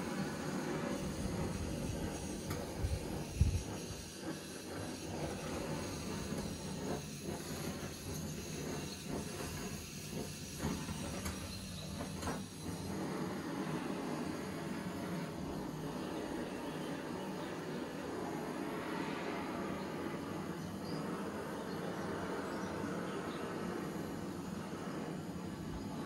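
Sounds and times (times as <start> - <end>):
gas torch roaring hiss: 0.0 - 26.0.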